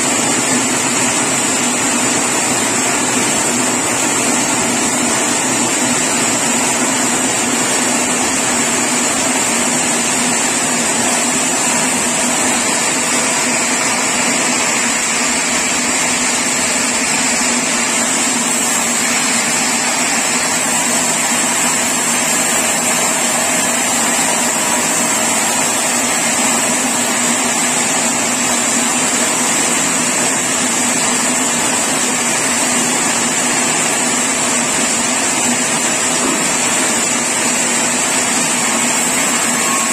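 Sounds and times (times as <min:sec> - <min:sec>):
sawmill machinery whine and drone: 0:00.0 - 0:39.9.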